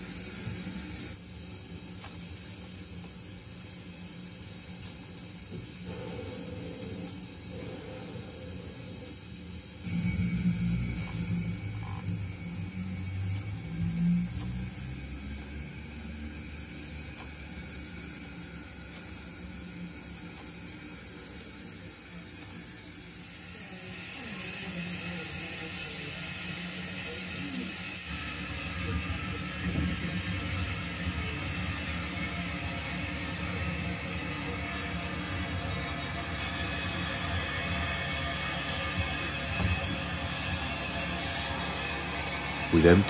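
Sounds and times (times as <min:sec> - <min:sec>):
model steam locomotive hissing: 0:00.0 - 0:43.0.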